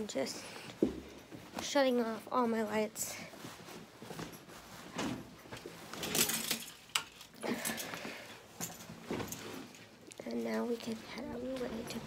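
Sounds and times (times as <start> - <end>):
rustling: 0.6 - 12.0.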